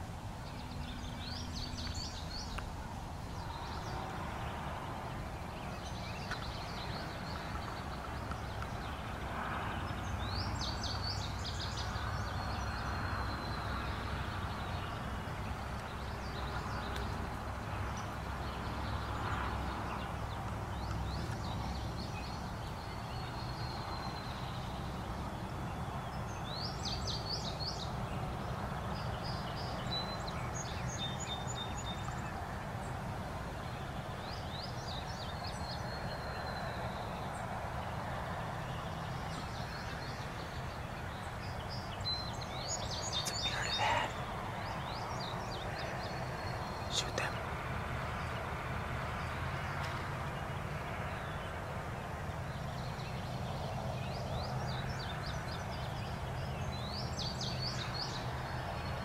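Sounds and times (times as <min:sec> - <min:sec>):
outdoor background noise: 0:00.0 - 0:59.0
songbirds singing: 0:00.0 - 0:59.0.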